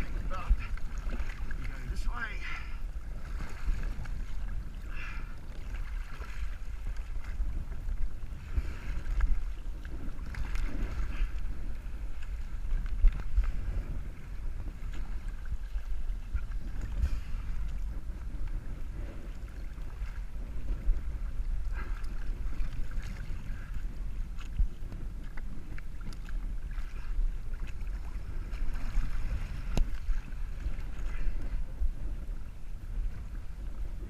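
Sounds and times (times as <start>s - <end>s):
water sloshing against hull: 0.0s - 34.0s
wind buffeting microphone: 0.0s - 34.0s.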